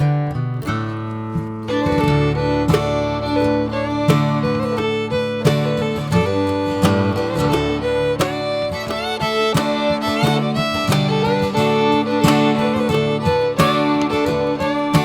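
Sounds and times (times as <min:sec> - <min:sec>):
fiddle melody: 0:00.0 - 0:15.0
plucked acoustic guitar: 0:00.0 - 0:15.0.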